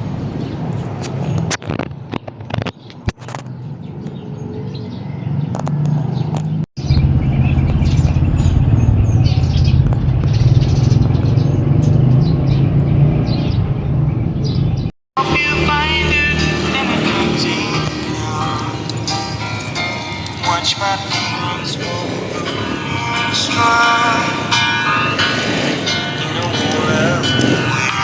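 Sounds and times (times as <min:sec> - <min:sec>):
vehicle rumble: 0:00.0 - 0:28.0
birds chirping: 0:00.1 - 0:28.0.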